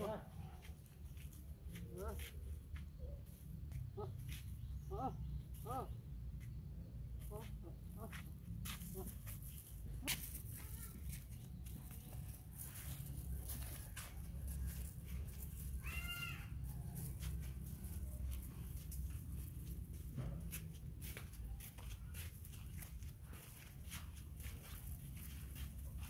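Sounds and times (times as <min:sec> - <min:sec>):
footsteps on dirt path: 0:00.0 - 0:26.0.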